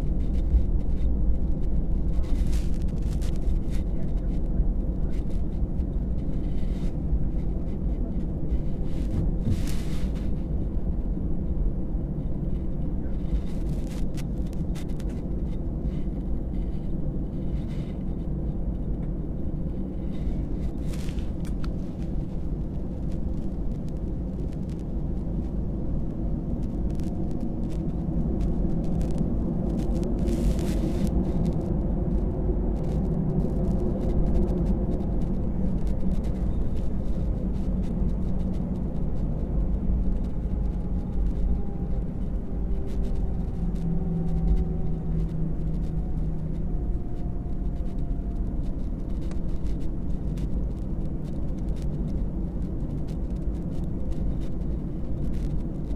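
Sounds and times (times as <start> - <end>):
jet engines rumbling in cabin: 0.0 - 55.9.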